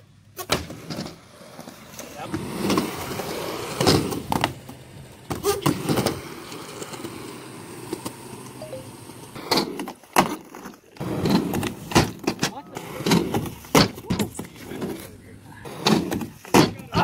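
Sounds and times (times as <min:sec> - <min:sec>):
skateboard wheels rolling on concrete: 0:00.0 - 0:17.0
skateboard clacking: 0:00.4 - 0:17.0.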